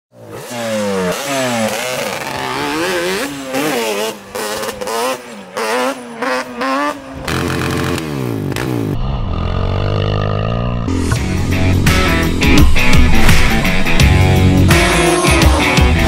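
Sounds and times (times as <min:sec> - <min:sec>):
atv engine revving: 0:00.2 - 0:16.0.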